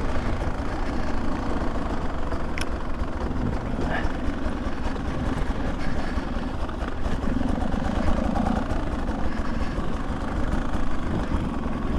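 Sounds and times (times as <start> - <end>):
two-stroke dirt bike engine running: 0.0 - 11.9.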